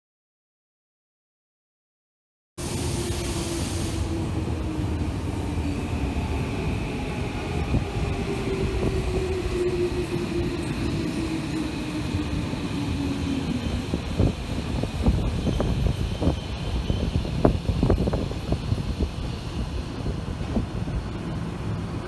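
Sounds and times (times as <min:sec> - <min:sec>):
train wheels rumbling on rail: 0:02.6 - 0:22.0.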